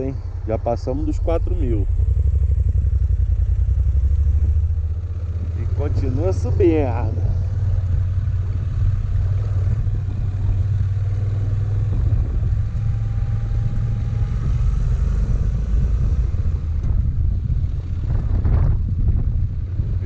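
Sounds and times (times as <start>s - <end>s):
motorcycle engine climbing: 0.0s - 20.0s.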